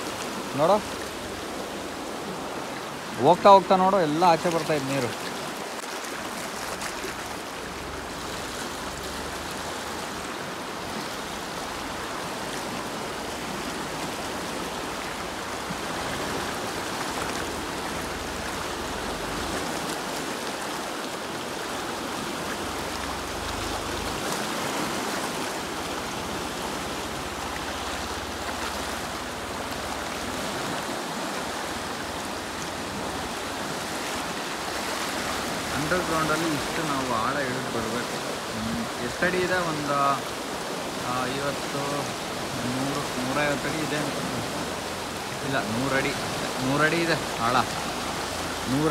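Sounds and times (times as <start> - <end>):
water rushing through channel: 0.0 - 48.9.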